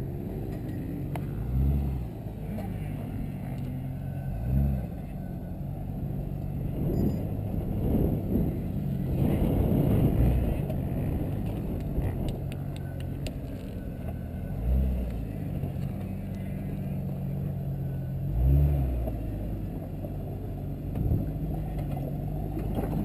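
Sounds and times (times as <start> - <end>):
engine revving: 0.0 - 19.9.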